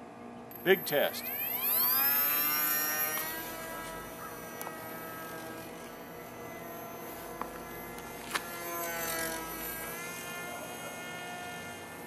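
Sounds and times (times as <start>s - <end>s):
small electric motor buzzing: 0.5s - 12.0s.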